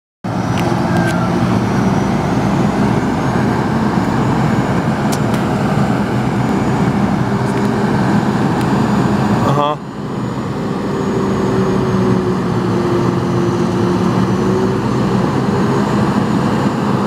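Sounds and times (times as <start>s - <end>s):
truck engine running: 0.3s - 17.0s.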